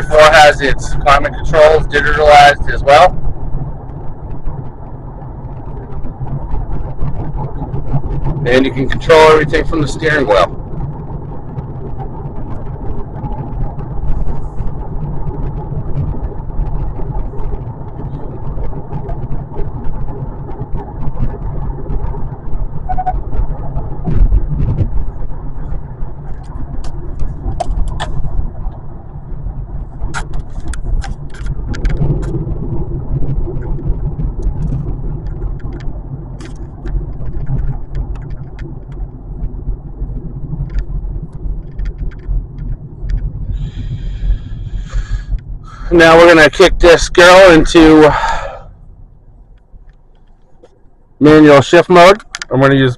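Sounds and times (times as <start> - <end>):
road and drivetrain rumble: 0.0 - 52.9.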